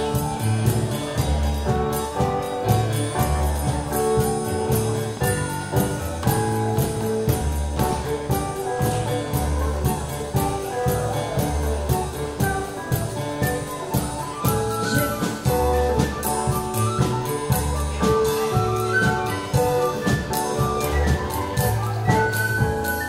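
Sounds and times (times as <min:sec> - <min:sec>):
live dance band playing: 0:00.0 - 0:23.0.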